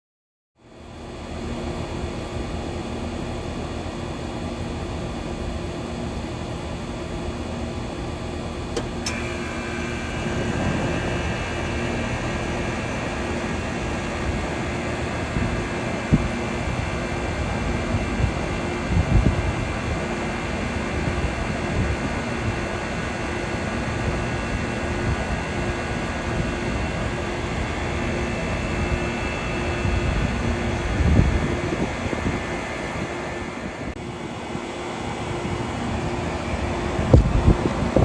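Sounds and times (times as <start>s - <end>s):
air conditioner fan running: 0.6s - 38.0s
compressor whine: 0.6s - 38.0s.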